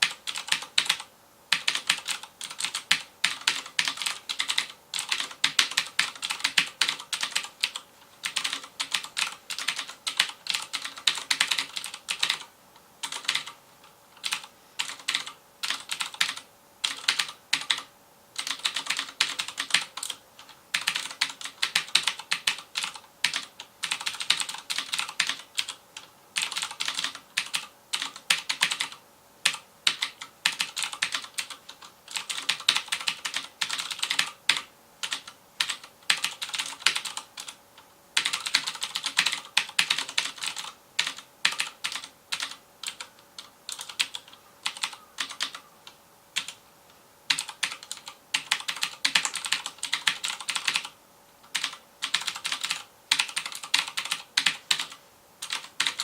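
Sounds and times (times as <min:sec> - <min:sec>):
clicky mechanical keyboard typing: 0:00.0 - 0:13.6, 0:14.2 - 0:46.6, 0:47.3 - 0:56.0.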